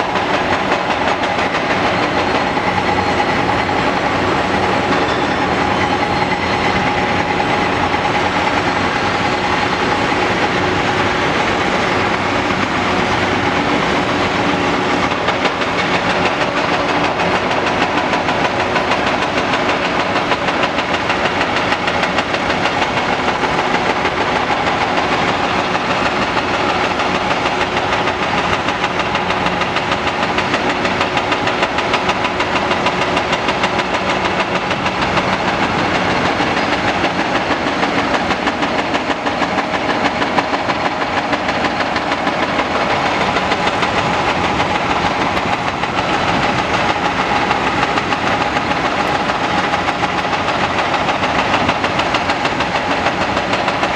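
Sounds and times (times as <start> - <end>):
excavator diesel engine running: 0.0 - 53.9
hydraulic whine: 0.0 - 53.9.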